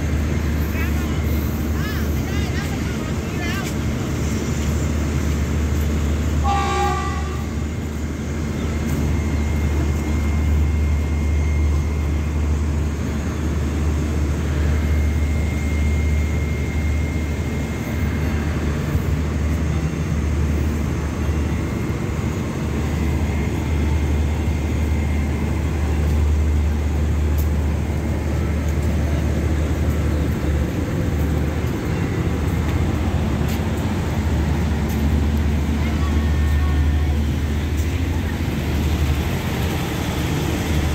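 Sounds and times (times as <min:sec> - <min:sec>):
train diesel hum: 0:00.0 - 0:40.9.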